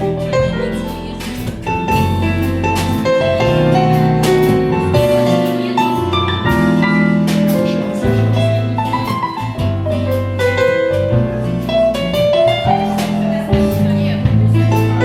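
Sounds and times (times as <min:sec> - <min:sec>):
instrumental pop music: 0:00.0 - 0:15.0.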